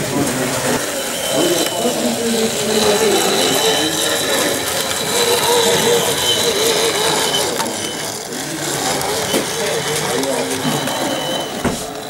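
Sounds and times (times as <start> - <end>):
model locomotive motor whirring: 0.0 - 12.0.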